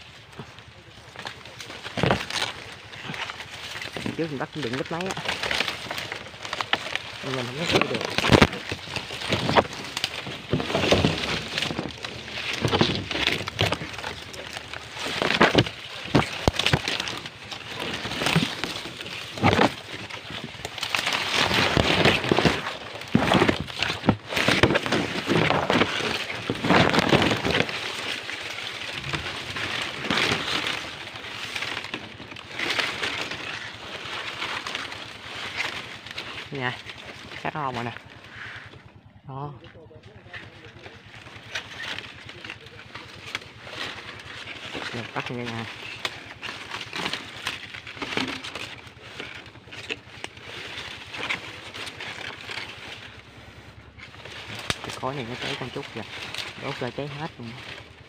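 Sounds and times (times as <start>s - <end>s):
dry fronds rustling and crackling: 0.0s - 58.0s.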